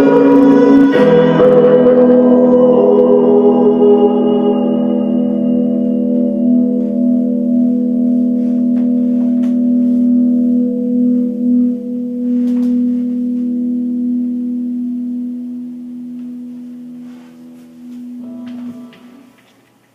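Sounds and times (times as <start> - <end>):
sustained musical chord: 0.0 - 19.4.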